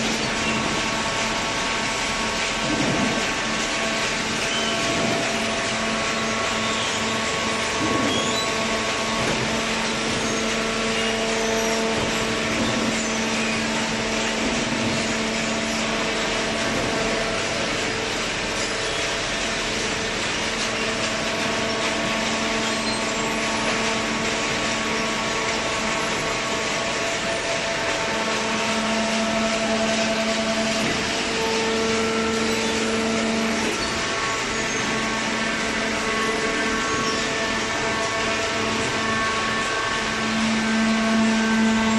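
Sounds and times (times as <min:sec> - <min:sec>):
machinery hum: 0:00.0 - 0:41.9.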